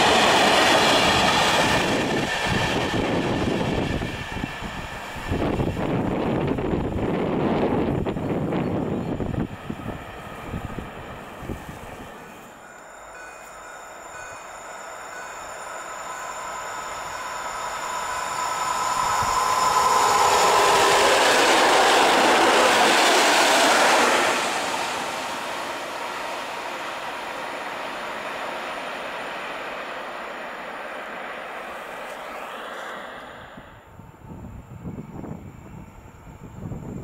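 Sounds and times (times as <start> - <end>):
electric train whine: 0.0 - 37.0
train wheels rushing on rail: 0.0 - 37.0.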